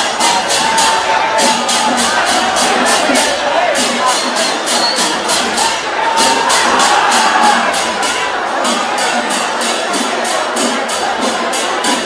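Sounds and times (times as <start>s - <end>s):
festival music: 0.0s - 12.0s
large crowd noise: 0.0s - 12.0s.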